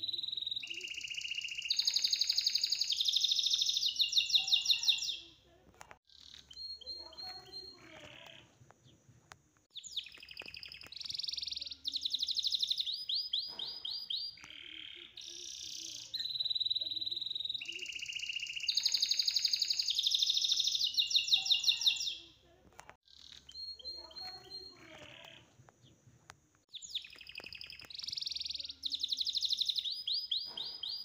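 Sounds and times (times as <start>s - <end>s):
birds chirping and trilling: 0.0s - 5.4s, 6.1s - 9.1s, 9.7s - 22.4s, 23.0s - 26.1s, 26.7s - 31.0s.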